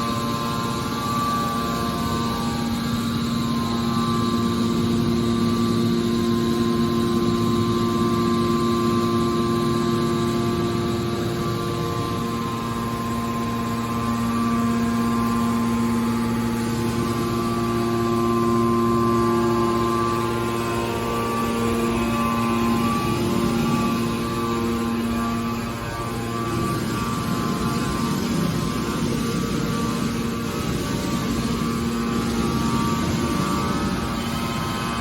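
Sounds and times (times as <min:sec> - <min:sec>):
hydraulic pump and motor humming: 0:00.0 - 0:35.0.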